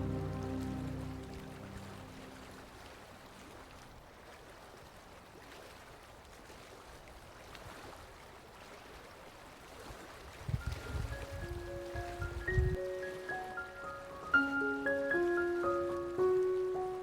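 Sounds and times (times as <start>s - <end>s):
small waves lapping at shore: 0.0s - 17.0s.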